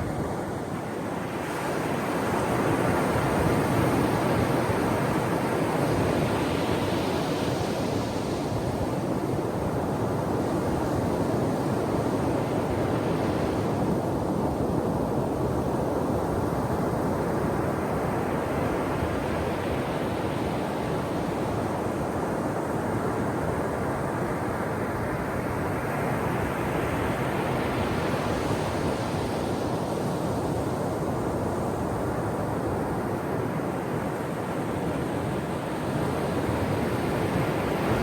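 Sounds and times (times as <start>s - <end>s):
ocean surf washing on shore: 0.0s - 38.0s.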